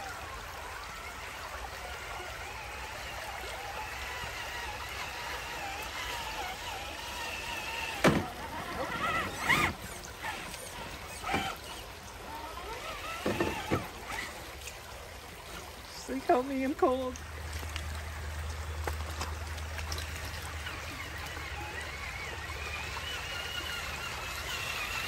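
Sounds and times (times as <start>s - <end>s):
electric motor and gears whining: 0.0s - 18.2s, 18.8s - 25.0s
stream running: 0.0s - 25.0s.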